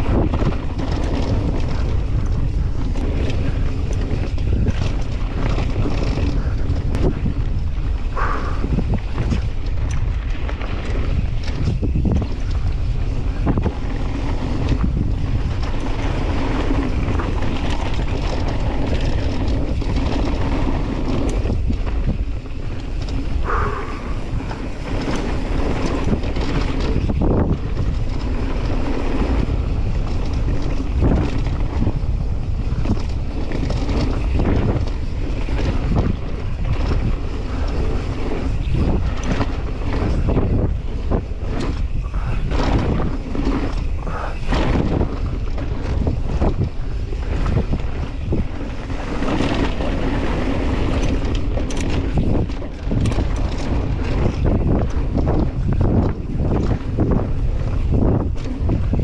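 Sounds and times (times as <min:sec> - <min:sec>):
bike rattling and knocking: 0:00.0 - 0:59.0
tyres rumbling on dirt trail: 0:00.0 - 0:59.0
wind buffeting camera: 0:00.0 - 0:59.0.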